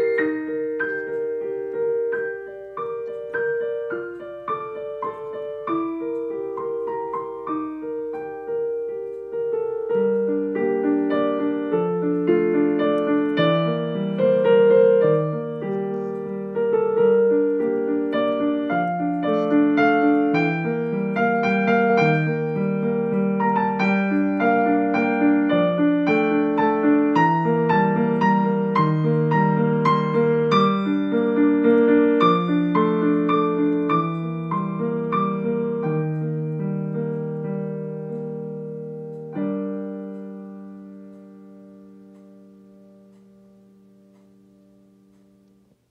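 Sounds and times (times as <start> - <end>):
digital piano played: 0.0 - 45.9.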